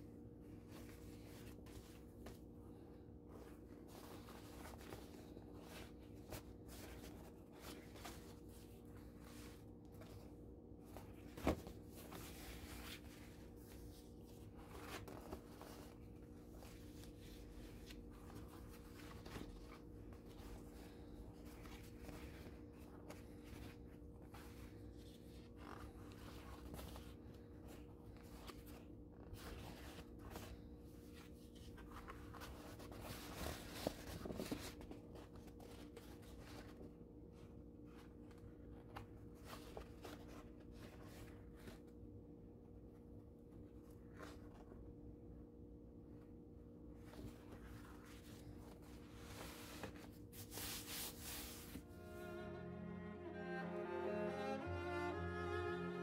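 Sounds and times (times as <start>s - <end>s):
paper crinkling and rustling: 0.3s - 42.2s, 46.9s - 51.8s.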